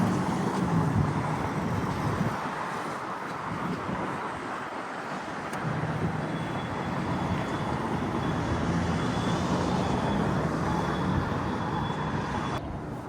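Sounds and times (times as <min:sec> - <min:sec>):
vehicle engines: 0:00.0 - 0:13.0.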